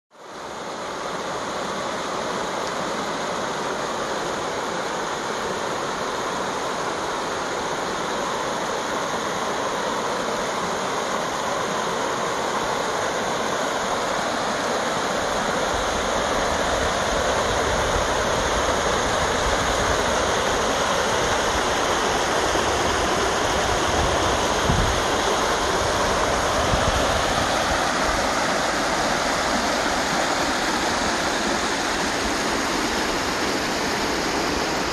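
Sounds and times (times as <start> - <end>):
water rushing over rocks: 0.2 - 34.9.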